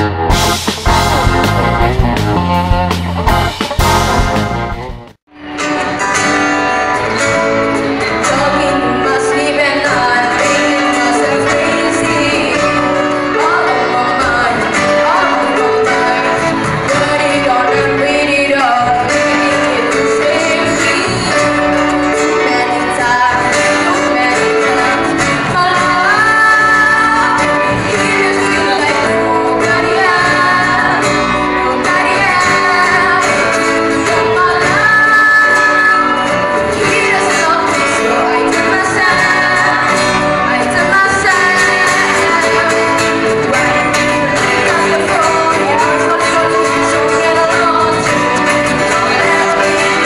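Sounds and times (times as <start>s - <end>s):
bass guitar: 0.0s - 50.0s
keyboard: 0.0s - 50.0s
strummed acoustic guitars: 0.0s - 50.0s
woman singing: 7.8s - 50.0s.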